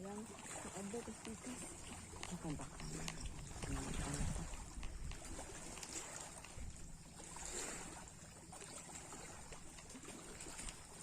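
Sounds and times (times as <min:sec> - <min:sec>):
sea waves washing: 0:00.0 - 0:11.0.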